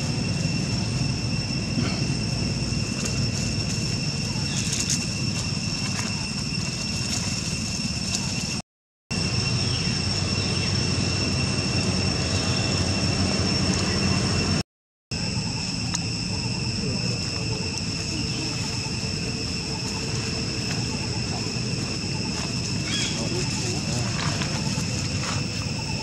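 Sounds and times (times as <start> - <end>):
constant low rumble: 0.0 - 26.0
high insect drone: 0.0 - 26.0.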